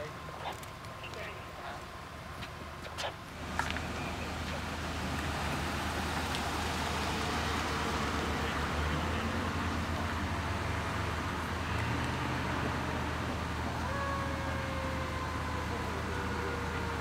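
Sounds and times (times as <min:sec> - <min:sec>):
street traffic noise: 0:00.0 - 0:17.0
vehicle engines humming: 0:00.0 - 0:17.0.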